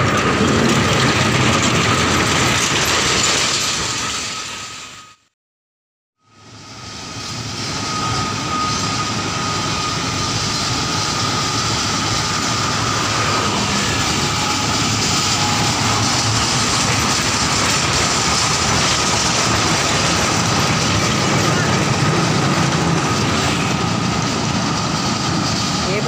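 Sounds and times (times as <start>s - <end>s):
constant whine: 0.0s - 5.0s, 6.2s - 26.0s
diesel locomotive running: 0.0s - 5.3s, 6.2s - 26.0s.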